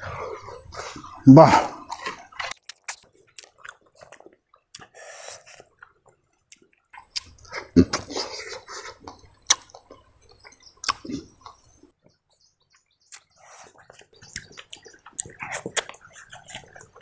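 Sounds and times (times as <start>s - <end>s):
wet chewing and lip-smacking: 1.8s - 17.0s.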